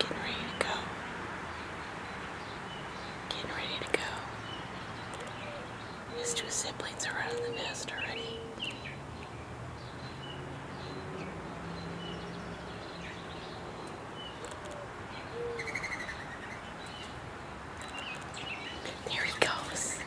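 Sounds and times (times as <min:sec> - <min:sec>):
bird chirps: 0:01.5 - 0:17.2, 0:17.8 - 0:20.0.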